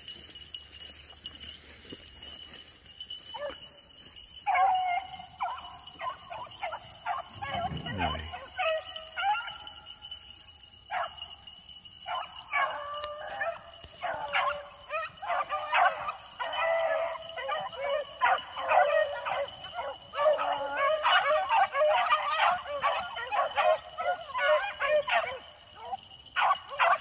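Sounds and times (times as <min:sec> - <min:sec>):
hounds baying: 0:01.0 - 0:27.0.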